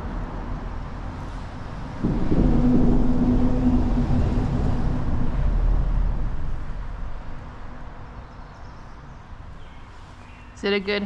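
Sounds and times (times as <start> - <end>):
vehicle crossing bridge overhead: 0.0 - 10.6.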